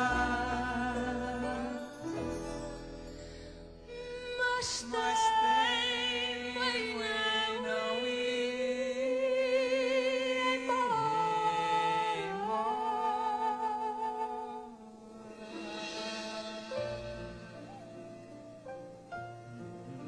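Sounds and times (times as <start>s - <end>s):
women singing a duet: 0.0s - 2.5s, 3.9s - 17.8s.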